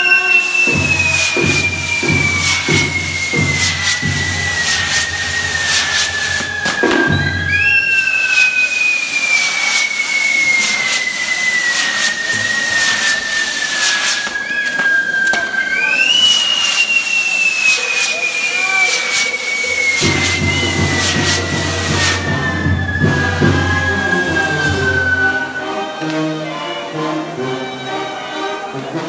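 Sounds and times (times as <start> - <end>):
sparks crackling: 0.0 - 26.4
fireworks whistling: 0.0 - 28.5.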